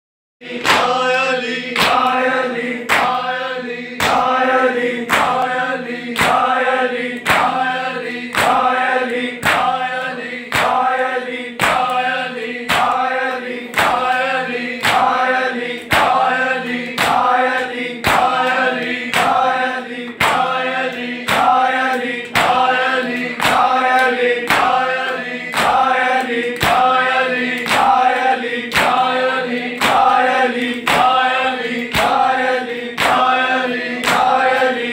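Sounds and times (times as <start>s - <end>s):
male voices chanting: 0.4s - 34.9s
men slapping chests in unison: 0.5s - 34.9s.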